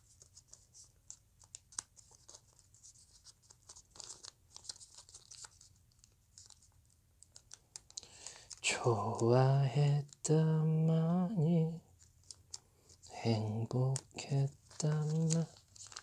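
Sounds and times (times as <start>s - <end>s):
paper crinkling being folded: 0.0s - 11.2s, 11.9s - 16.0s.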